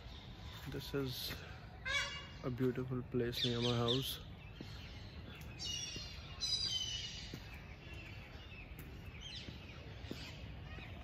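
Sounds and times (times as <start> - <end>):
birds chirping and calling: 0.0 - 11.0
low outdoor background hum: 0.0 - 11.0.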